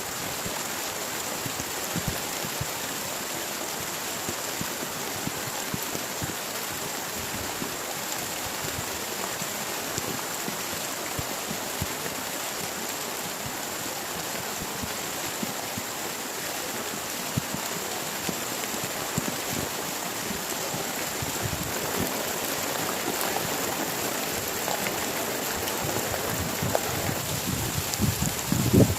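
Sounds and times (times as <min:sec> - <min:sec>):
heavy rain falling: 0:00.0 - 0:28.9
heavy raindrops tapping: 0:00.2 - 0:28.9.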